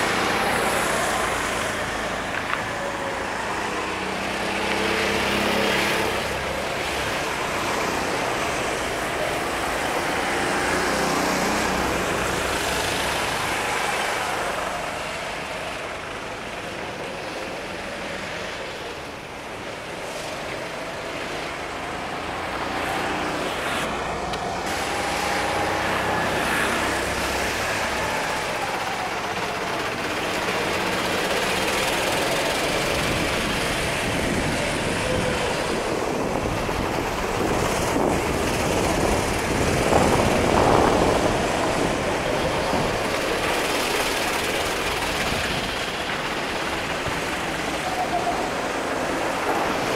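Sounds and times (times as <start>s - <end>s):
kart engines passing: 0.0s - 49.9s.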